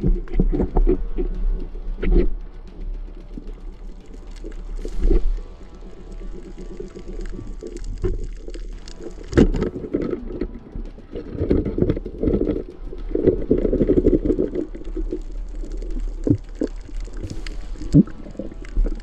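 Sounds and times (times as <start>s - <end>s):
underwater air bubbles rumbling: 3.4s - 19.0s.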